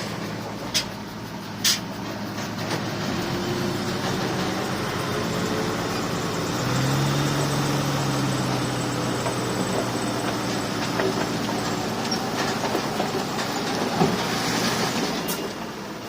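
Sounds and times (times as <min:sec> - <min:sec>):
diesel earthmover engine running: 0:00.0 - 0:16.0.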